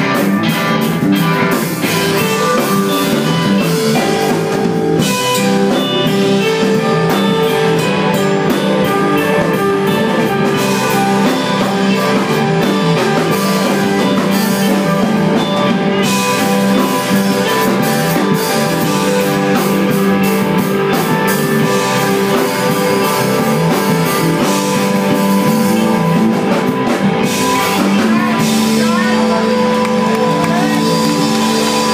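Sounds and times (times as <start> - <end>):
rock band playing instrumental: 0.0 - 31.9.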